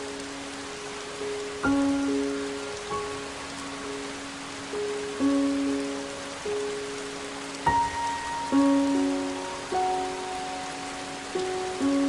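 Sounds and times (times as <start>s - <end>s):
soft instrumental music: 0.0s - 12.0s
steady hiss: 0.0s - 12.0s.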